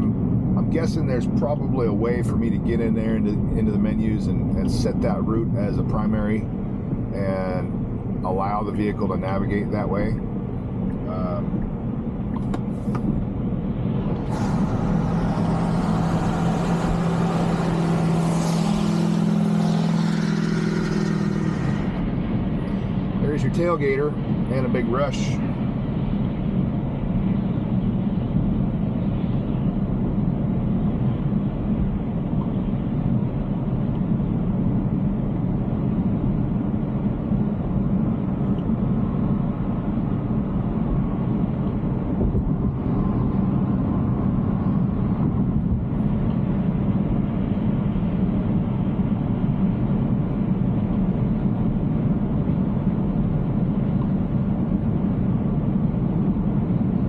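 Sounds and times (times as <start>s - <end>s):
road and tyre noise in car cabin: 0.0s - 57.0s.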